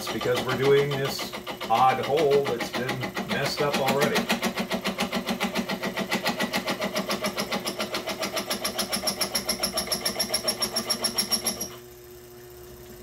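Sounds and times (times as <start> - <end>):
mill drill bit knocking: 0.0 - 11.8.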